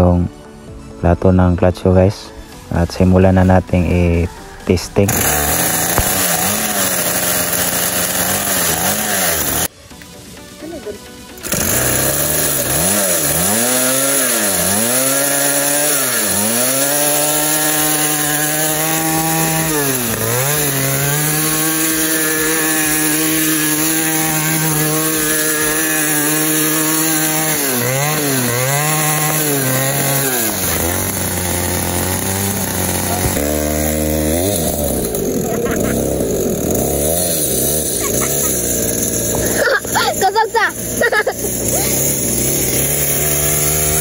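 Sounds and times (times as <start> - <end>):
small two-stroke engine revving: 5.0 - 9.7, 11.4 - 44.0.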